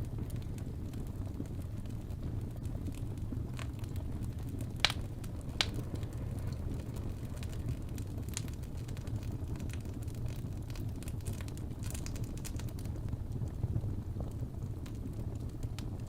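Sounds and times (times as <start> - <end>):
fire crackling in fireplace: 0.0 - 16.0
fire popping: 0.0 - 16.0.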